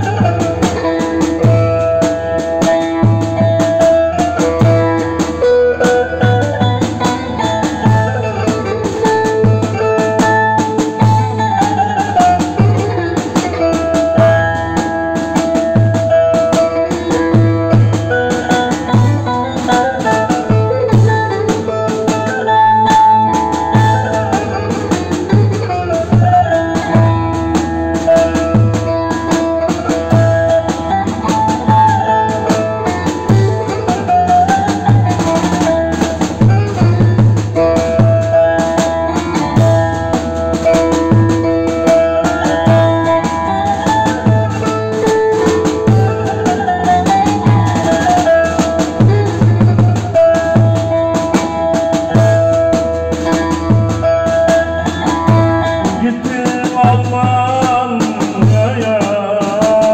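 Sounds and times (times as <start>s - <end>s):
plucked saz melody: 0.0s - 59.9s
steady drum beat with kick: 0.0s - 59.9s.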